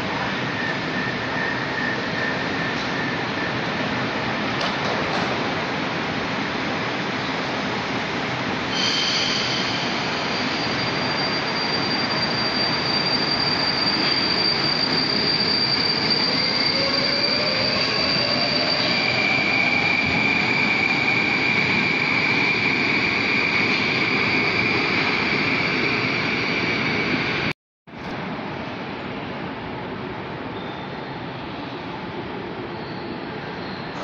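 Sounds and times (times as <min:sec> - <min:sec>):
train wheels rumbling on rails: 0:00.0 - 0:27.5.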